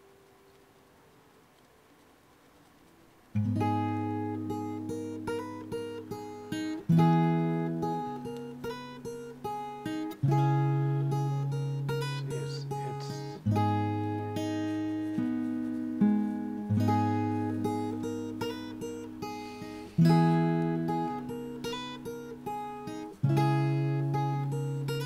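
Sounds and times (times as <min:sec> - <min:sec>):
plucked-string background music: 0:02.6 - 0:25.0.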